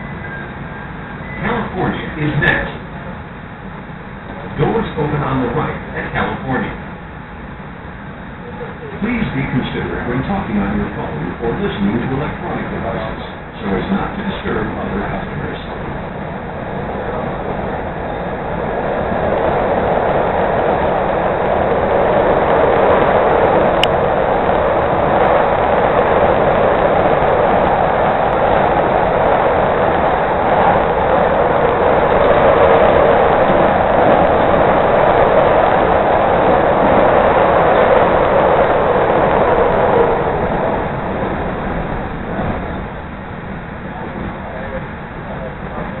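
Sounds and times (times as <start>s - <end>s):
train wheel and motor noise: 0.0s - 46.0s.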